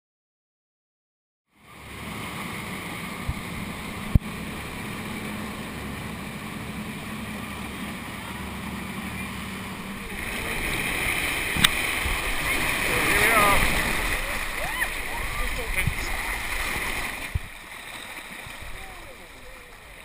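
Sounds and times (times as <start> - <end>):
motorboat engine hum: 1.5 - 20.0
rushing wake water: 1.5 - 20.0.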